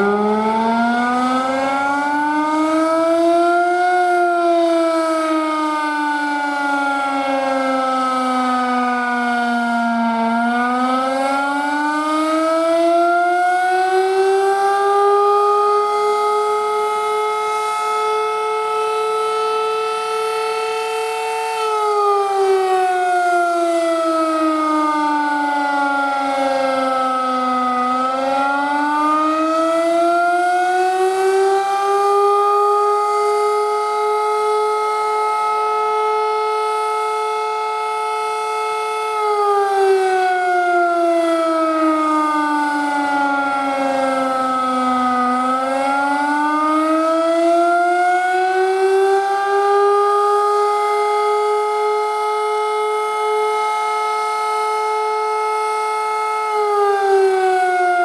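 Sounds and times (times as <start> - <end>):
fire siren winding up and down: 0.0 - 58.0.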